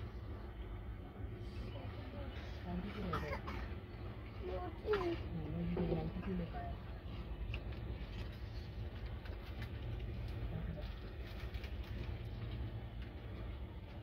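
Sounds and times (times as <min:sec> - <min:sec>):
train rumbling from inside coach: 0:00.0 - 0:14.0.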